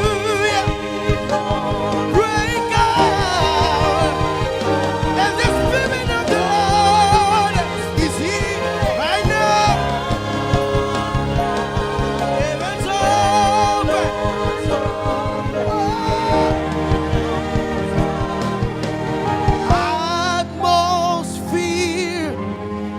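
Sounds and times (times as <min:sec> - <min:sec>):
instrumental backing: 0:00.0 - 0:22.9.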